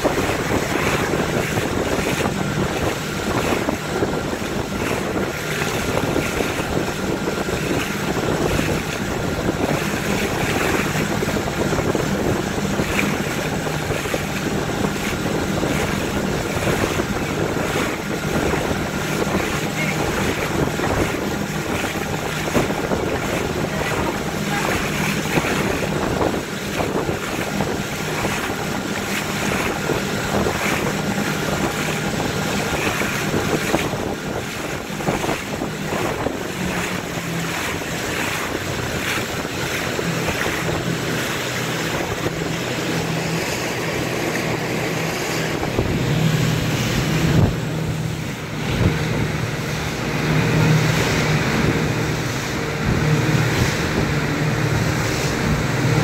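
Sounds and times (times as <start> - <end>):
motorboat engine humming: 0.0 - 56.0
water splashing: 0.0 - 56.0
wind buffeting microphone: 0.0 - 56.0.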